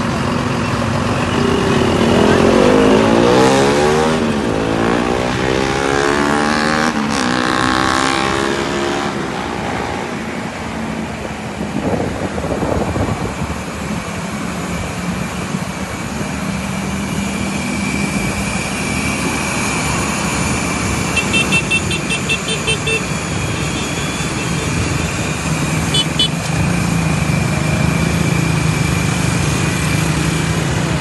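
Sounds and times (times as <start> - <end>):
bus passing by: 0.0 - 31.0
road traffic noise: 0.0 - 31.0.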